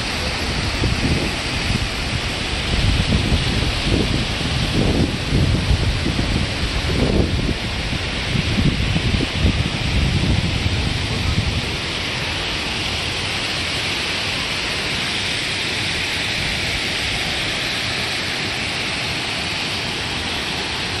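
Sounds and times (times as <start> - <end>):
waterfall splashing into pool: 0.0 - 21.0.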